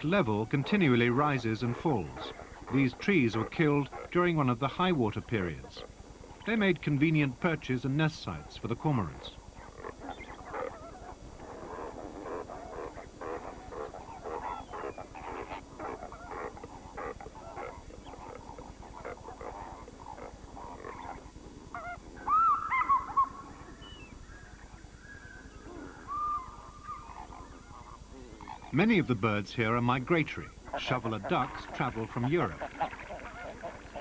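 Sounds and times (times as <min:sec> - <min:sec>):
birds calling: 0:00.0 - 0:34.0.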